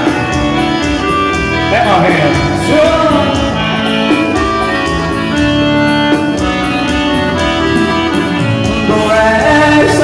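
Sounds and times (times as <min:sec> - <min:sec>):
keyboard chords over a beat: 0:00.0 - 0:10.0.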